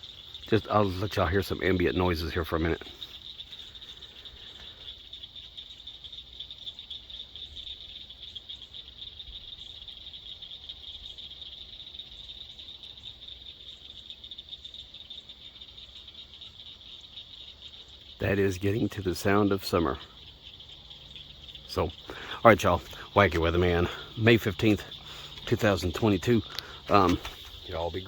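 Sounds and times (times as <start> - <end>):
frogs trilling: 0.0 - 28.0.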